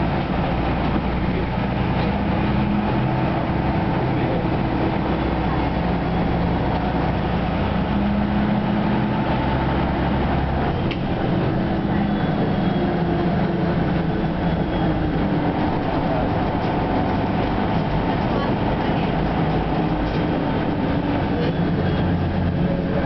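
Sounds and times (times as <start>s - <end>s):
bus diesel engine running: 0.0s - 23.0s
road noise: 0.0s - 23.0s.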